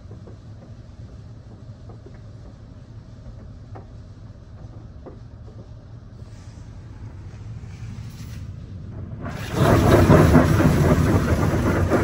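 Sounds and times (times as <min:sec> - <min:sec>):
car wash low rumble: 0:00.0 - 0:12.0.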